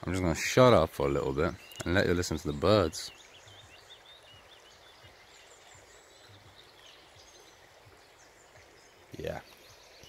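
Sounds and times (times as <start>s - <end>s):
babbling stream: 0.0s - 10.0s
faint birdsong chirps: 0.0s - 10.0s.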